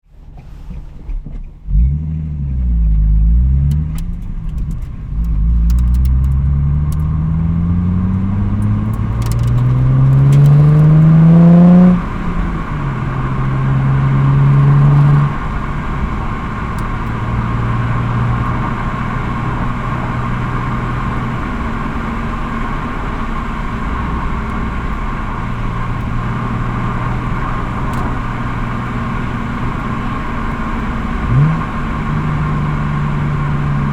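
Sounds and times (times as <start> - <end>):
car engine revving: 0.3 - 33.9.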